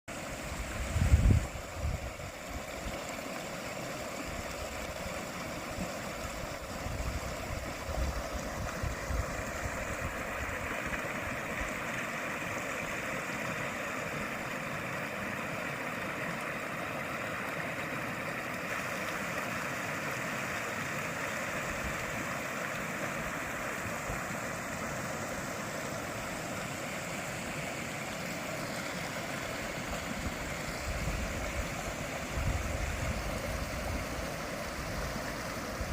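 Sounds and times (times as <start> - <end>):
mountain stream rushing: 0.1 - 35.9.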